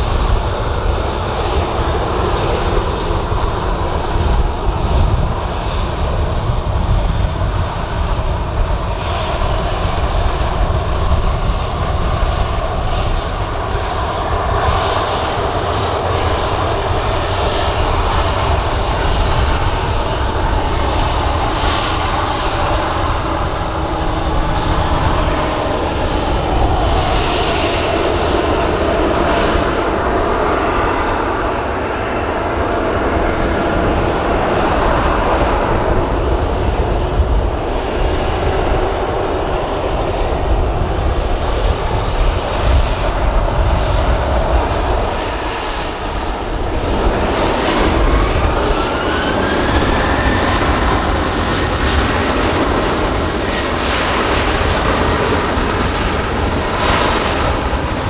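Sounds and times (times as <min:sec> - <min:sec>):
jet engines at takeoff power: 0:00.0 - 0:58.0.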